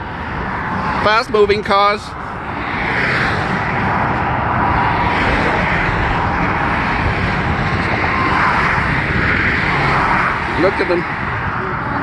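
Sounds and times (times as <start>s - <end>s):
fast freeway traffic rushing: 0.0s - 12.0s.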